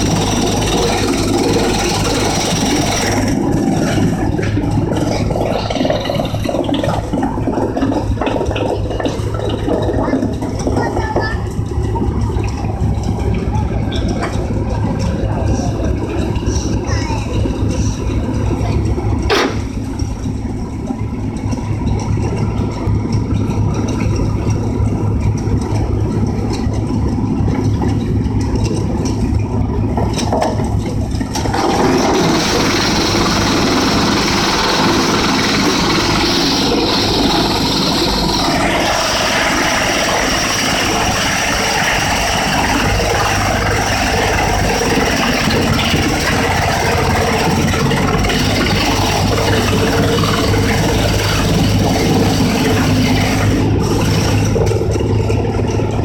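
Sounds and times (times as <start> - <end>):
forestry machine engine running: 0.0 - 56.0.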